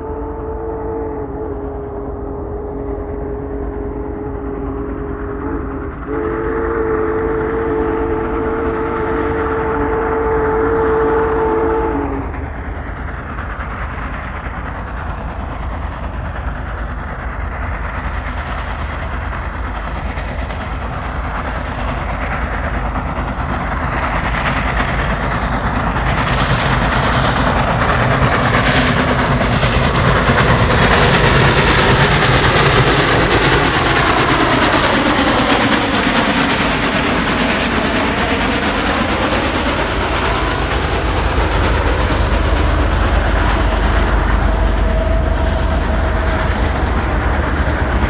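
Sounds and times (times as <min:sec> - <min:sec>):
steam locomotive passing: 0:00.0 - 0:48.0.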